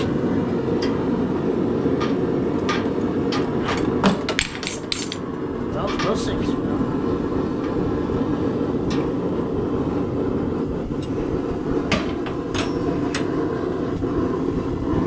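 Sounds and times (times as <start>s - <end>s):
forge roaring: 0.0s - 15.0s.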